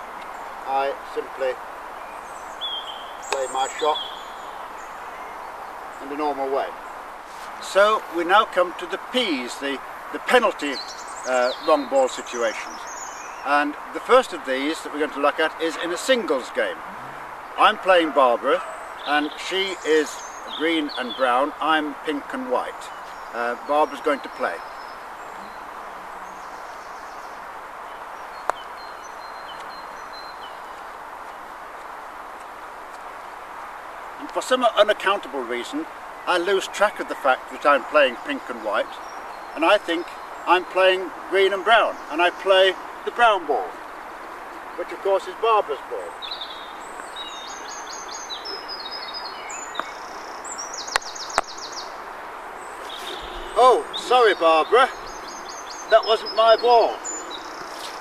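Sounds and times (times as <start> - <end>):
birds chirping: 0.0 - 58.0
outdoor noise: 0.0 - 58.0.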